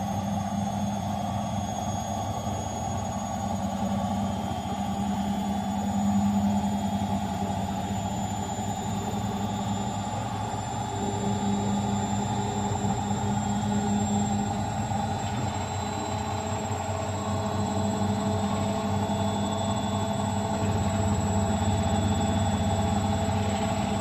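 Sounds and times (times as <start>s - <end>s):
high whine rising in pitch: 0.0s - 24.0s
washing machine spinning: 0.0s - 24.0s.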